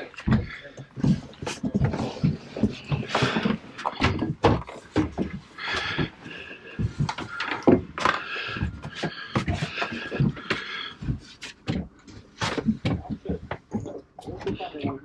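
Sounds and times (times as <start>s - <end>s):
wooden lockers knocking and clattering: 0.0s - 15.0s.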